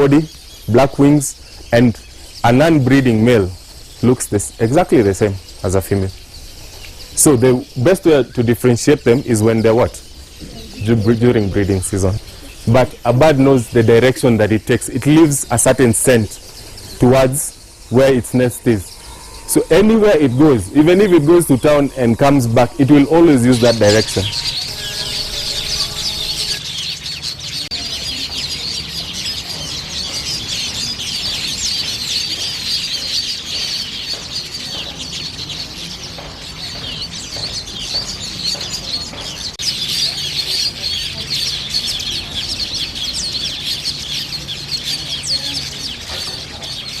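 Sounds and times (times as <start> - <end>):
colony of birds chattering: 0.0 - 47.0.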